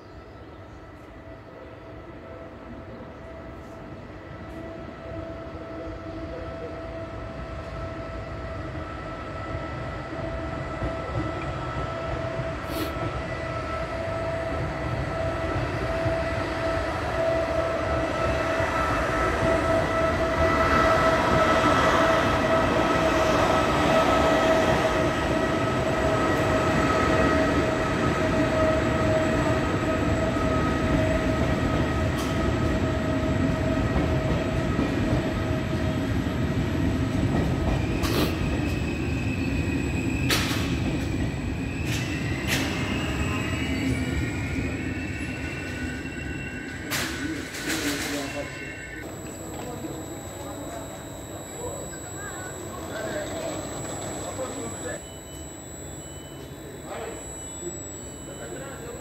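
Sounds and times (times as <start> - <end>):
electric train rumble with whine: 0.0 - 59.0.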